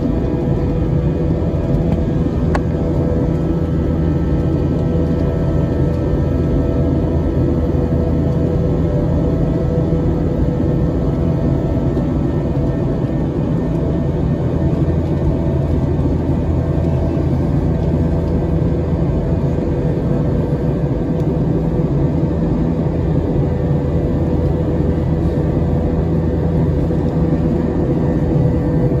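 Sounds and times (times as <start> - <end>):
airliner cabin engine rumble: 0.0 - 29.0
faint steady hum: 0.0 - 29.0.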